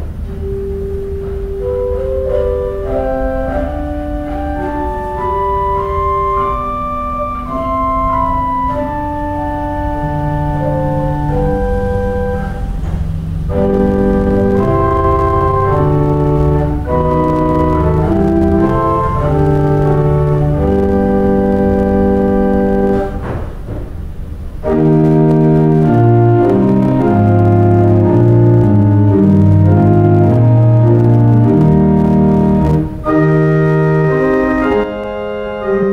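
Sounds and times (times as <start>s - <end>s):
organ music: 0.0s - 35.9s.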